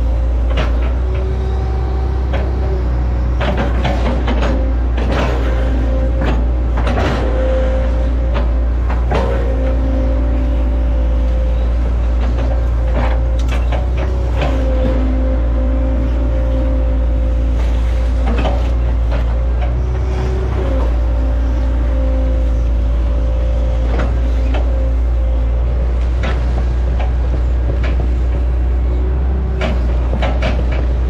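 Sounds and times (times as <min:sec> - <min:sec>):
excavator diesel engine running: 0:00.0 - 0:31.0
hydraulic whine: 0:00.0 - 0:31.0.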